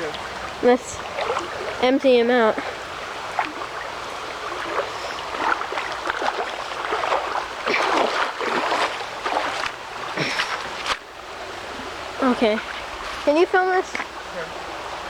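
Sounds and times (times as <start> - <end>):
small creek rushing: 0.0 - 15.0
water splashing and sloshing: 0.0 - 15.0.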